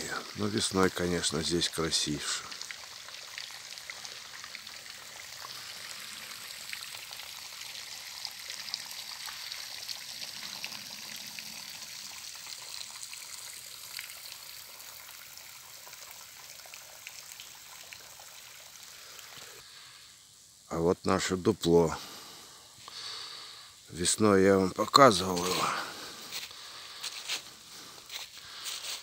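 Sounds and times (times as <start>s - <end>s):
stream trickling: 0.0s - 29.0s.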